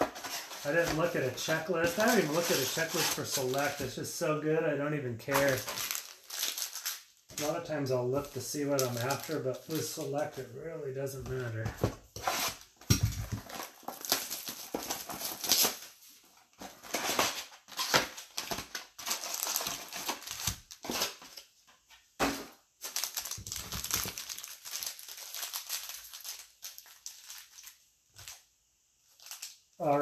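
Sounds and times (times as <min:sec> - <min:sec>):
wrapper and foil crinkling: 0:00.0 - 0:04.3, 0:05.2 - 0:10.5, 0:12.3 - 0:16.0, 0:16.6 - 0:21.5, 0:22.8 - 0:28.5, 0:29.1 - 0:30.0.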